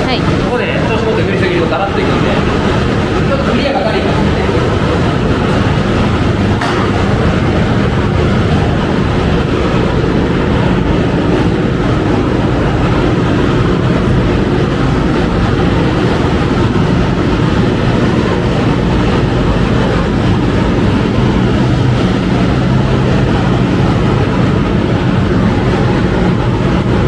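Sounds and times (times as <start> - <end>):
low hum: 0.0 - 27.0
ventilation fans rushing: 0.0 - 27.0.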